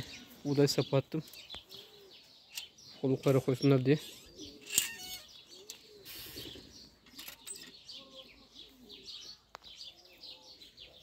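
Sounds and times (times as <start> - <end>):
pigeons cooing softly: 0.0 - 11.0.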